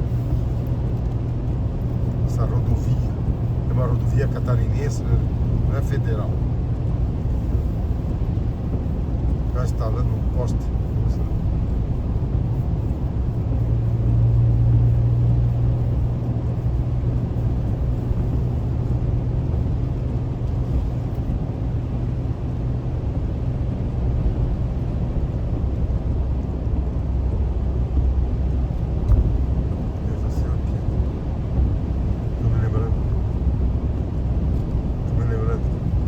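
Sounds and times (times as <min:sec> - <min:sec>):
car engine and tyre drone: 0:00.0 - 0:36.0.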